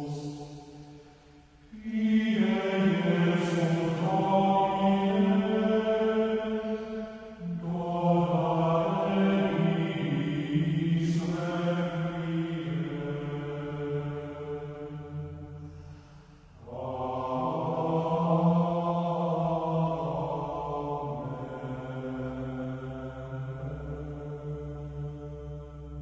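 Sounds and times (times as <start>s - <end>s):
men singing plainchant: 1.7s - 15.0s, 16.6s - 25.7s.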